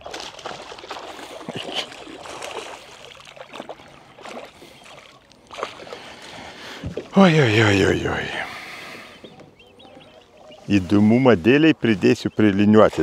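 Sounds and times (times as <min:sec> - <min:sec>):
water sloshing: 0:00.0 - 0:13.0.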